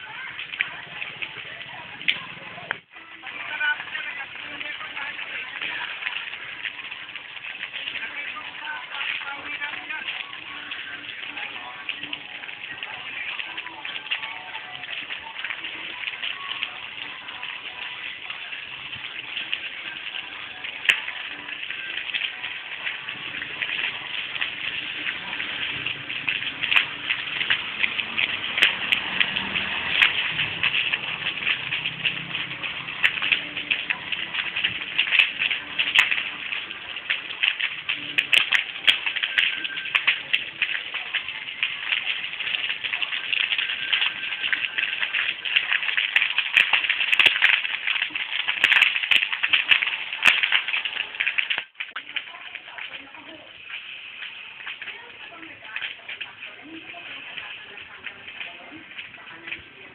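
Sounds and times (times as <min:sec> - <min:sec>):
vegetation fire crackling: 0:00.0 - 0:59.9.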